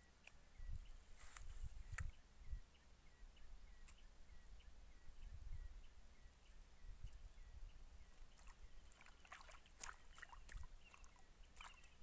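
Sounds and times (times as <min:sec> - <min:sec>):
faint chirps: 0:00.0 - 0:12.0
faint low wind rumble: 0:00.0 - 0:12.0.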